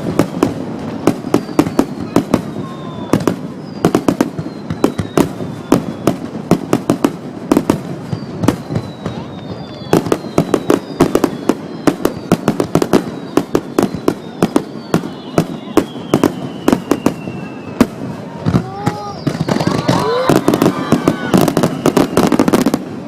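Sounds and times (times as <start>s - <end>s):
fireworks bangs: 0.0s - 23.0s
fireworks whistles falling: 0.0s - 23.0s.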